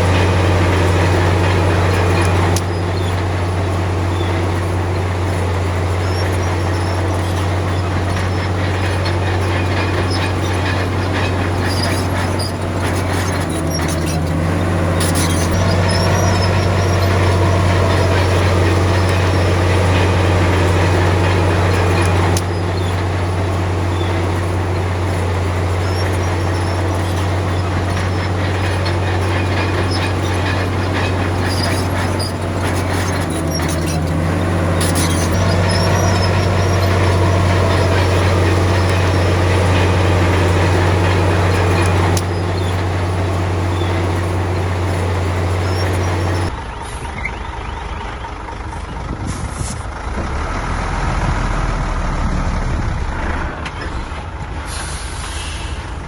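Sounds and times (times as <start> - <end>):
clanks and rattles: 0.0 - 46.7
bulldozer diesel engine running: 0.0 - 56.0.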